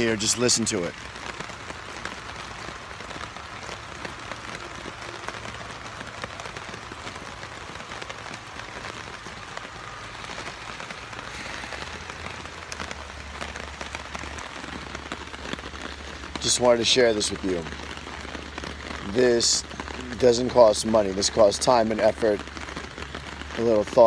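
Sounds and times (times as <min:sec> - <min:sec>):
rain pattering on a tarp: 0:00.0 - 0:24.0.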